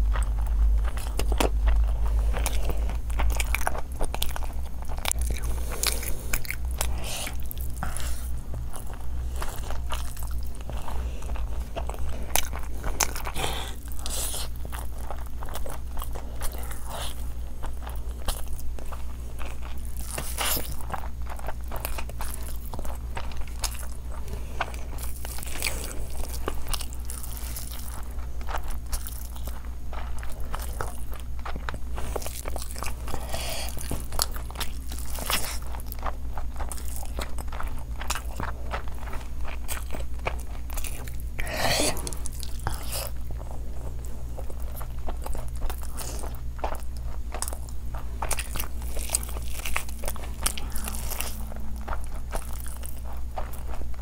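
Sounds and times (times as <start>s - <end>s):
person chewing with wet smacking: 0.0s - 54.0s.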